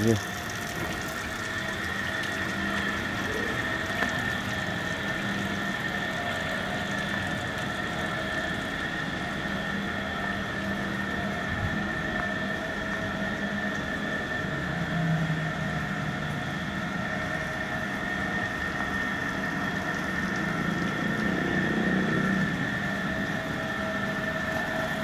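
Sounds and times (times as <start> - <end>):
motor whining and humming: 0.0 - 25.0.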